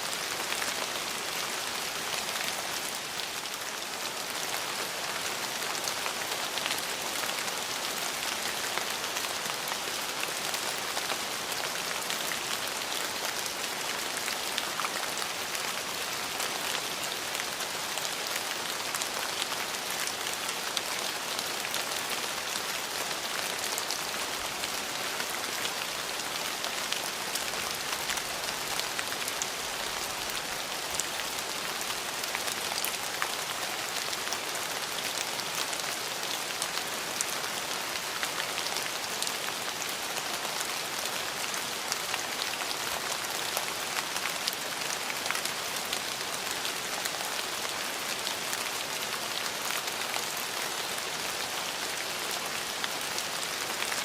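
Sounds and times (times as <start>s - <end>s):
raindrops pattering: 0.0s - 51.1s
rain hissing on hard surfaces: 0.0s - 54.0s.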